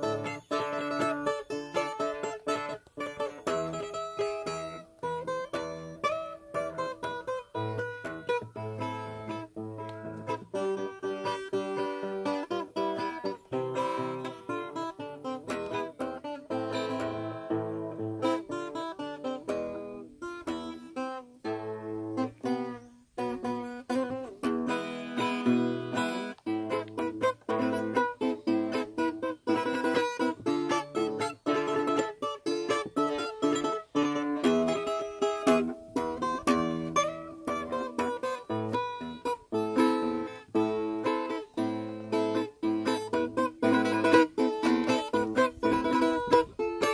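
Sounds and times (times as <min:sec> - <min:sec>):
acoustic guitar plucking: 0:00.0 - 0:46.9.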